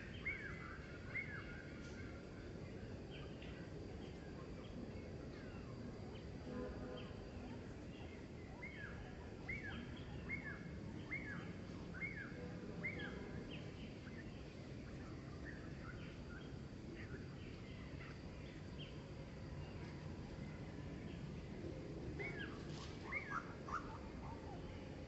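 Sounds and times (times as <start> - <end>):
faint bird chirps: 0.0 - 25.0
low outdoor rumble: 0.0 - 25.0.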